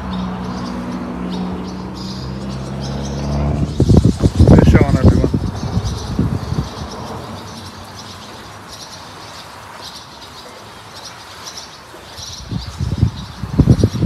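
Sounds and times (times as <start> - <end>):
songbirds chirping: 0.0 - 14.0
faint outdoor hiss: 1.8 - 13.6.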